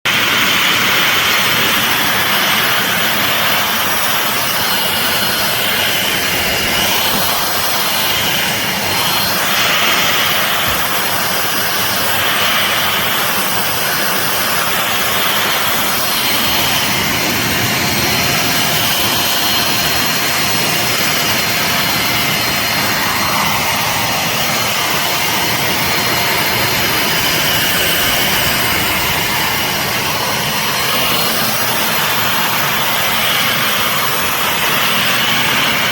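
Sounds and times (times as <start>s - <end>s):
vacuum cleaner running: 0.1s - 35.9s.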